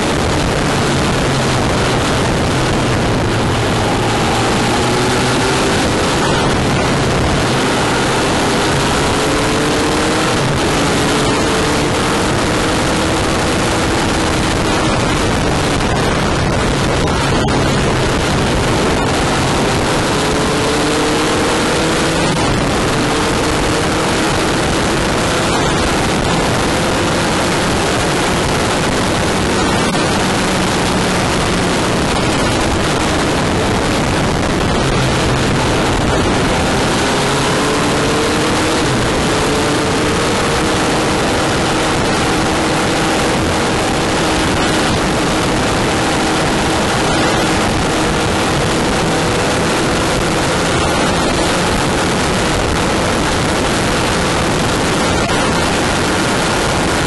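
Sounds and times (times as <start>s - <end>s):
motorcycle engine accelerating: 0.0s - 57.0s
wind and road noise: 0.0s - 57.0s.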